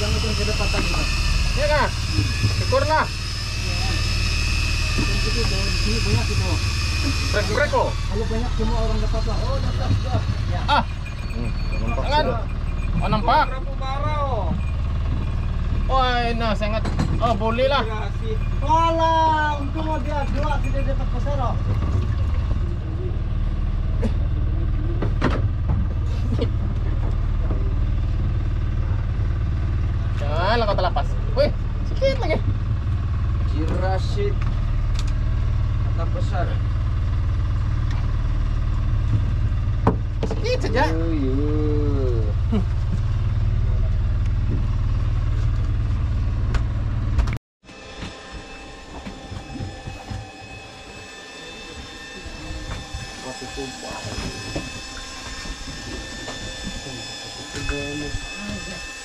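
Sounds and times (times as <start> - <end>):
boat engine humming: 0.0 - 59.0
high whine: 0.0 - 59.0.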